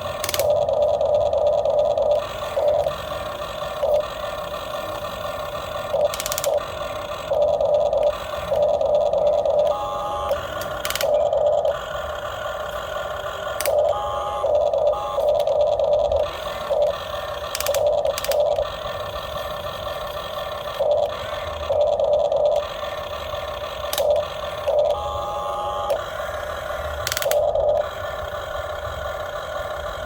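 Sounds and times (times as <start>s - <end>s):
sharp clicks: 0.0s - 25.0s, 26.8s - 27.9s
model excavator motors whining: 0.0s - 30.0s.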